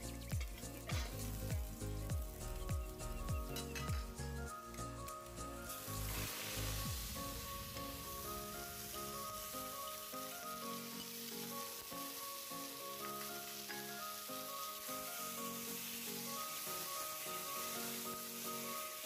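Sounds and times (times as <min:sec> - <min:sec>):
background music: 0:00.0 - 0:19.0
chicken sizzling in a pot: 0:00.0 - 0:19.0.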